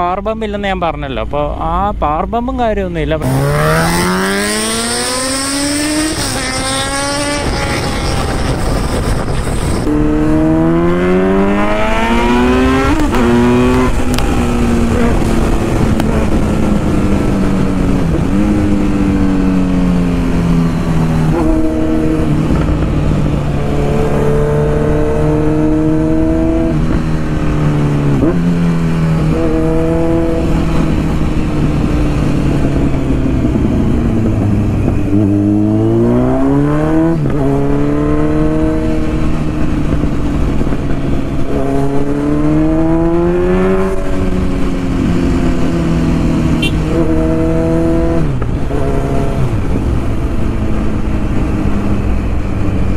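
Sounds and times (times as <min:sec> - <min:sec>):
motorcycle engine accelerating: 0:03.1 - 0:52.9.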